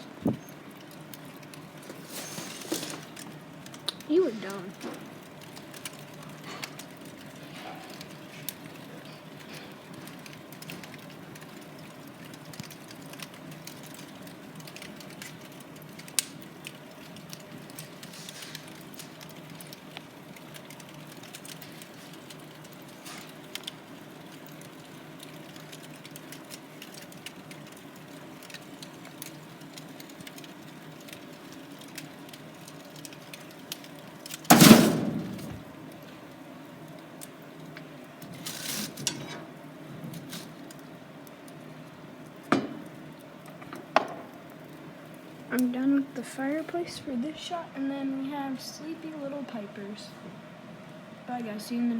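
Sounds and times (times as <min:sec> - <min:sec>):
log crackling in fireplace: 0:00.0 - 0:51.9.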